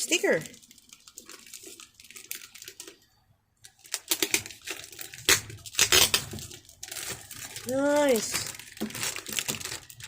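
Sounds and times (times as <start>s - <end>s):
plastic packaging crinkling and tearing: 0.0s - 10.0s.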